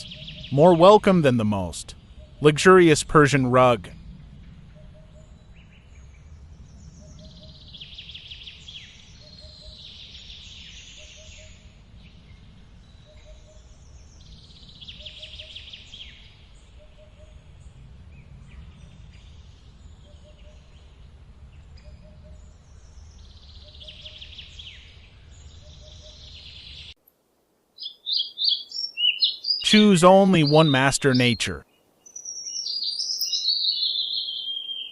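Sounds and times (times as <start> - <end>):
birds singing: 0.0 - 2.5, 4.5 - 27.0, 27.8 - 34.9.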